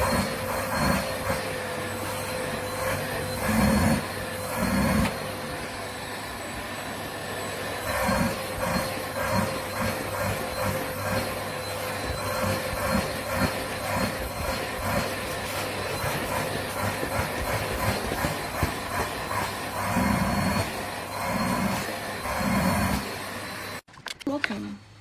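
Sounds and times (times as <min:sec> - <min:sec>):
vacuum cleaner motor whining: 0:00.0 - 0:23.9.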